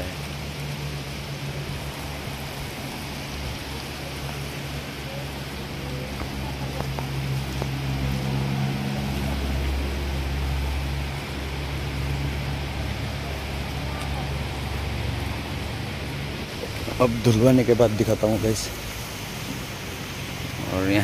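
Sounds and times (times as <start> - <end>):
constant hiss: 0.0 - 21.0
low motor hum: 0.0 - 21.0.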